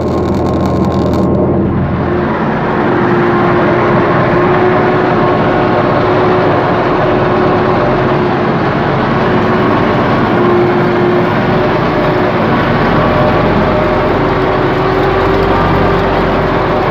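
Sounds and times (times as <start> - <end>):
diesel tractor engine running: 0.0 - 16.9.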